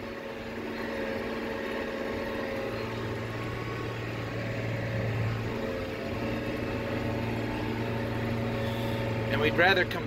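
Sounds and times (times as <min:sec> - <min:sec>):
diesel engine running under load: 0:00.0 - 0:10.0.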